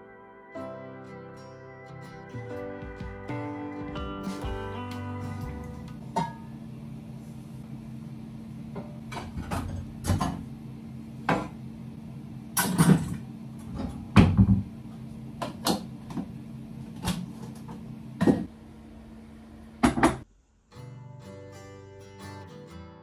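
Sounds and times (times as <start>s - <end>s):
steady low hum: 0.9s - 21.2s.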